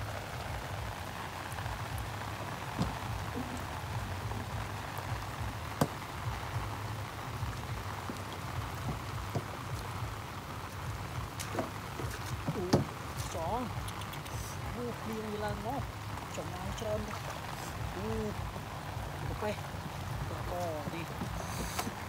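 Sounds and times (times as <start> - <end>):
rain falling on grass and water: 0.0 - 22.0.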